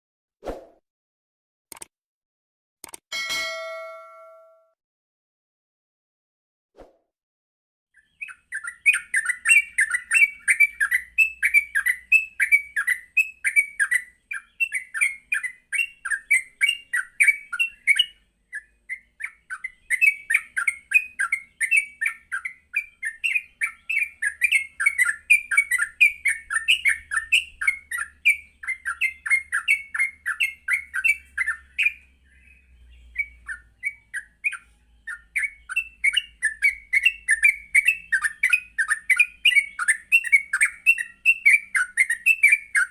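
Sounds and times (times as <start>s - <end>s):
bird fast chattering song: 8.0s - 42.9s.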